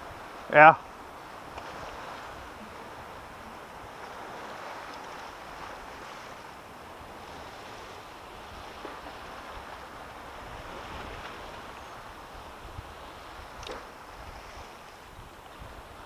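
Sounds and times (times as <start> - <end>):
small waves lapping: 0.0 - 16.0
wind buffeting microphone: 0.0 - 16.0.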